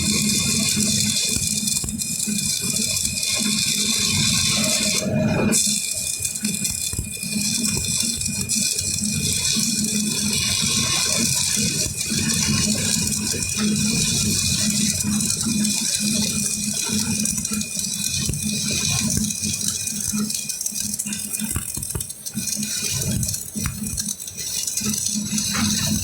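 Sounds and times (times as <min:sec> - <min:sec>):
arc welding crackling: 0:00.0 - 0:26.0.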